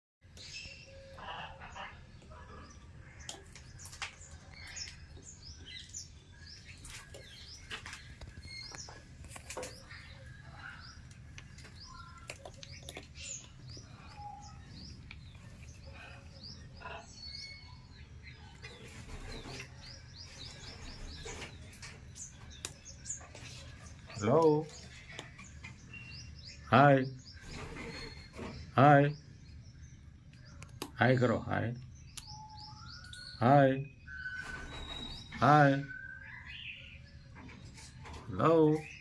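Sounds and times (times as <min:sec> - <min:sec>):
birds chirping: 0:00.2 - 0:39.0.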